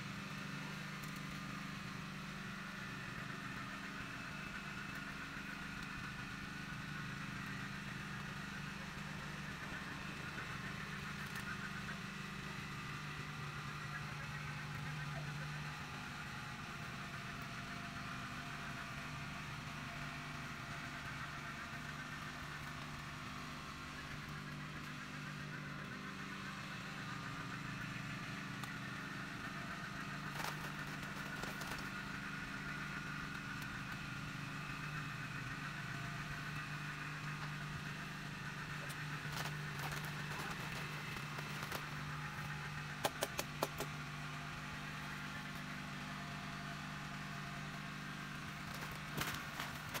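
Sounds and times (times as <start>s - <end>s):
low engine hum: 0.0s - 50.0s.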